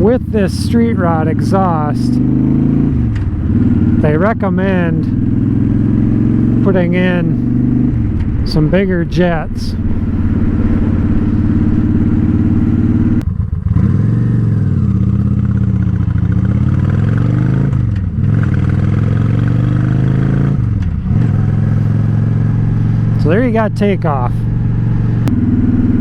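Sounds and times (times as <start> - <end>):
motorcycle engine idling: 0.0 - 17.2, 17.9 - 26.0
motorcycle accelerating: 0.0 - 26.0.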